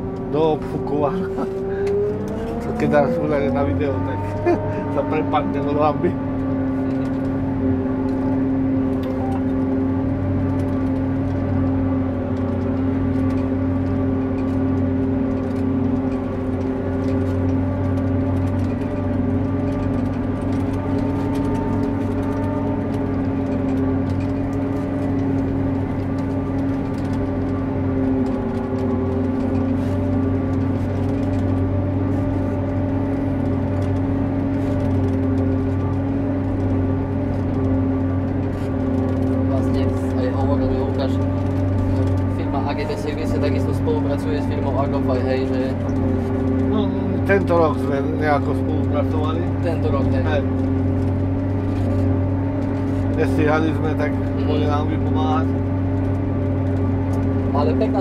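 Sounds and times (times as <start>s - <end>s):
engine drone: 0.0s - 58.0s
steady machine whine: 0.0s - 58.0s.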